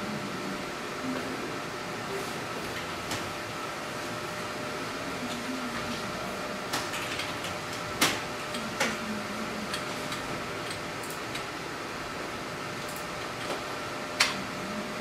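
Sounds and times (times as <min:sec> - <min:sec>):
equipment room hum: 0:00.0 - 0:15.0.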